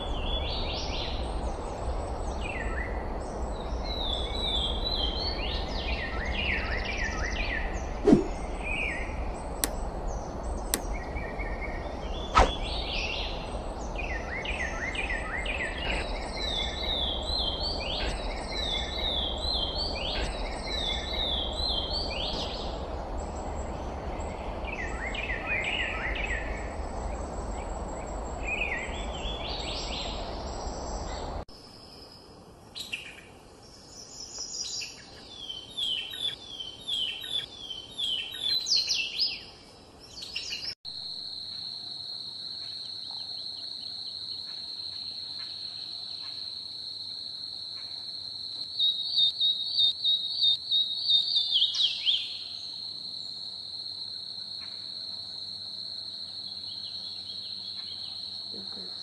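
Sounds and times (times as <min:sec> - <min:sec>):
songbirds singing: 0:00.0 - 0:41.7, 0:47.7 - 0:53.5, 0:54.4 - 0:59.0.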